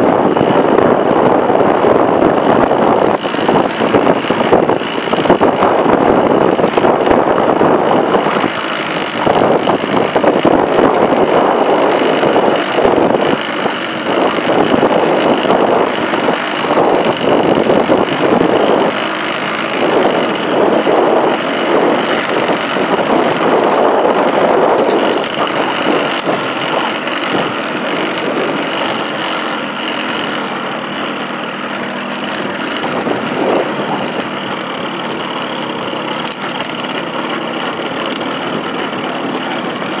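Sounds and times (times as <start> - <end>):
road noise and jolts: 0.0 - 40.0
vehicle engine running: 0.0 - 40.0.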